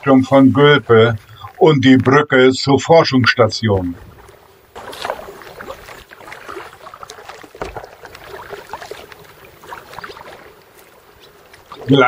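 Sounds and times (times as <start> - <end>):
paddle splashing in water: 0.0 - 2.4, 3.2 - 12.0.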